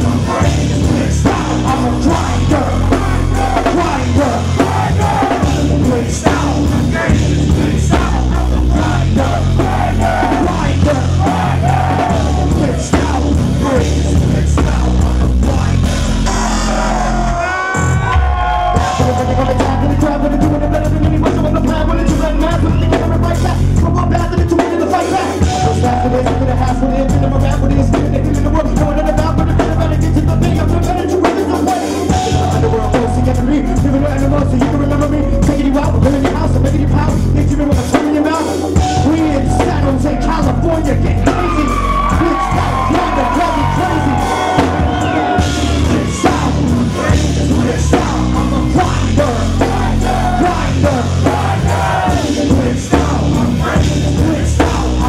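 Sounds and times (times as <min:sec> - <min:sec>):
vocalist through pa: 0:00.0 - 0:17.6, 0:18.8 - 0:55.0
live rap-rock band: 0:00.0 - 0:55.0.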